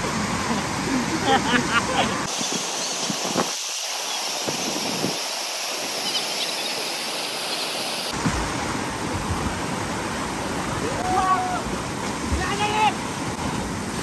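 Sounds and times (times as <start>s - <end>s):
water rushing over weir: 0.0s - 14.0s.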